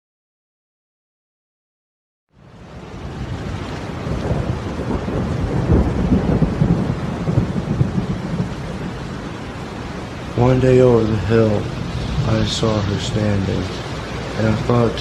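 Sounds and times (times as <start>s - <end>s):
rumbling noise with crackle: 2.5s - 15.0s.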